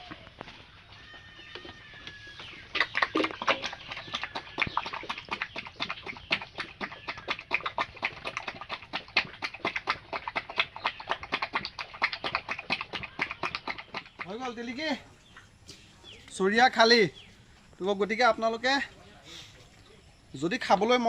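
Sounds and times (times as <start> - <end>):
pigs chewing and smacking: 0.0 - 21.0.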